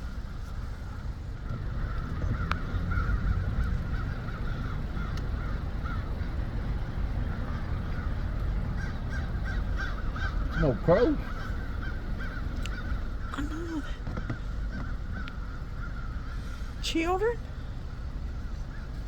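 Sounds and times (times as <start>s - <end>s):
flock of birds calling: 0.0s - 19.0s
steady low rumble: 0.0s - 19.0s.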